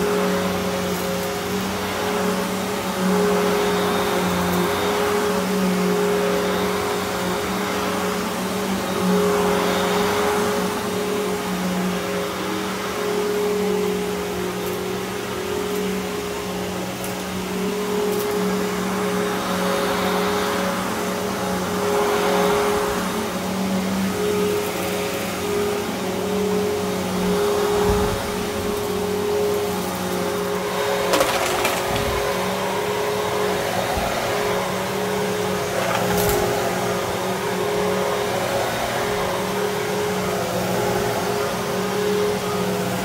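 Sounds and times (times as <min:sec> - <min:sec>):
vacuum cleaner running on carpet: 0:00.0 - 0:43.0.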